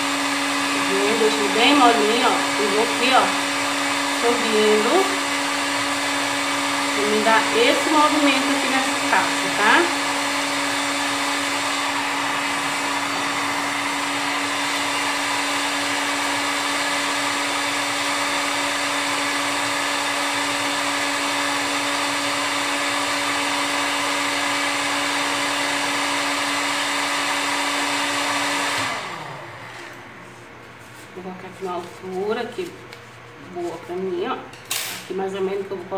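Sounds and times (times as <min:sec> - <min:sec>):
heat gun fan whirring: 0:00.0 - 0:35.9.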